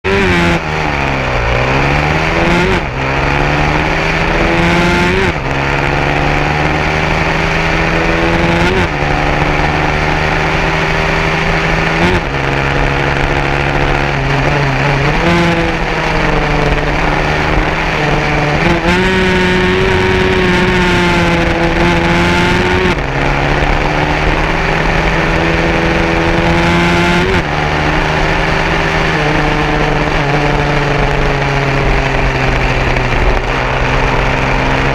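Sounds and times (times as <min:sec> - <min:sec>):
racing motorcycle engine: 0:00.0 - 0:34.9.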